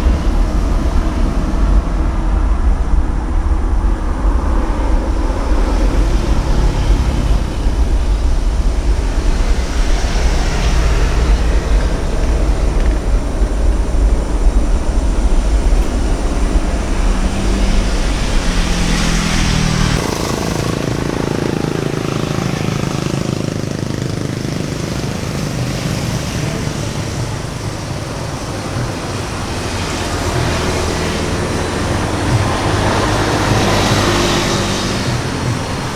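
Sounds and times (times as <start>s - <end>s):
jet airliner engine roar: 0.0s - 35.9s.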